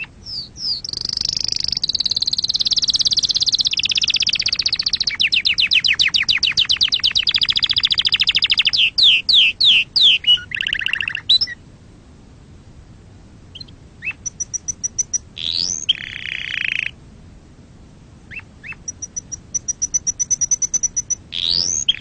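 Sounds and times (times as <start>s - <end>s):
canary singing: 0.0s - 11.6s, 13.5s - 17.0s, 18.3s - 22.0s.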